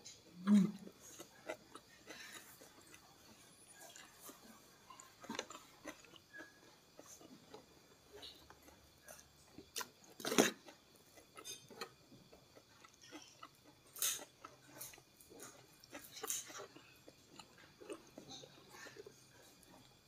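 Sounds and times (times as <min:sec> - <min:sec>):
person chewing with soft clicks: 0:00.1 - 0:20.0.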